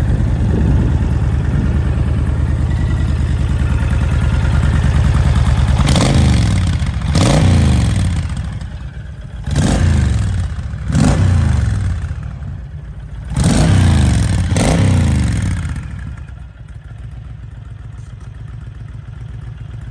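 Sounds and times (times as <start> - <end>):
motorcycle engine revving: 0.0 - 16.6
motorcycle engine idling: 0.0 - 19.9.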